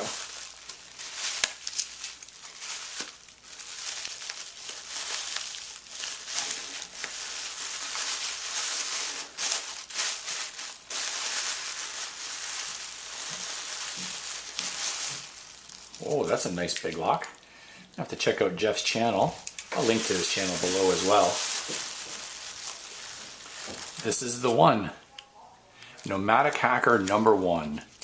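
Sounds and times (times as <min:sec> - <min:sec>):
packing material crinkling: 0:00.0 - 0:24.9.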